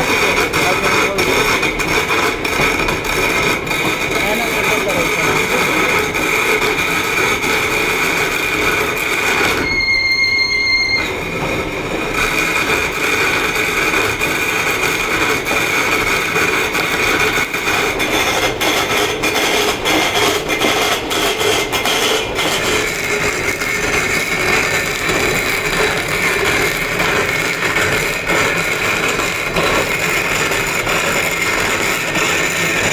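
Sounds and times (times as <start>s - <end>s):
power tool grinding stone: 0.0s - 32.9s.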